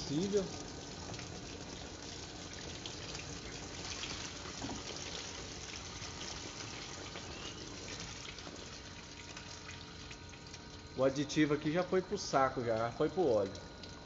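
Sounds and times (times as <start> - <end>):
coolant trickling and dripping: 0.0 - 14.0.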